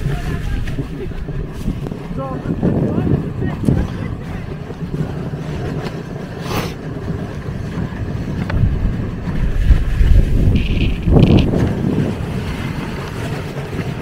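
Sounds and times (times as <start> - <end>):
sled runners scraping over snow: 0.0 - 14.0
wind buffeting the microphone: 0.0 - 14.0.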